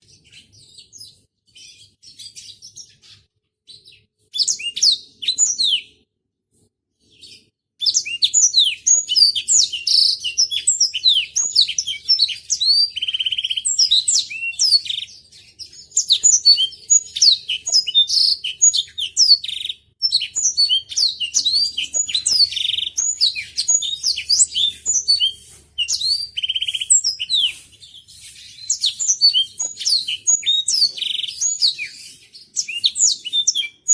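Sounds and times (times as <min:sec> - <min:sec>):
canary singing: 0:00.0 - 0:06.0, 0:07.1 - 0:33.9.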